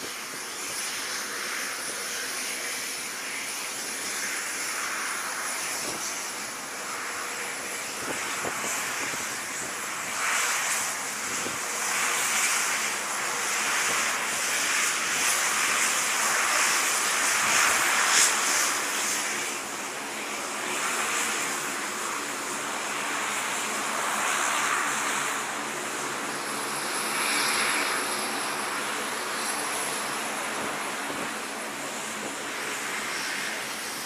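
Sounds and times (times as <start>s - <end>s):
turboprop engines running: 0.0s - 34.0s.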